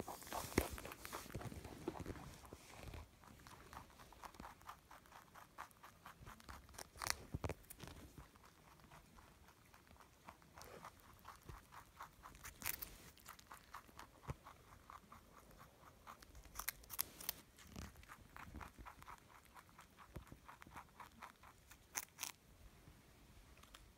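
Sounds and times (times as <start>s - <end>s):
rabbit chewing carrot: 0.0s - 23.9s.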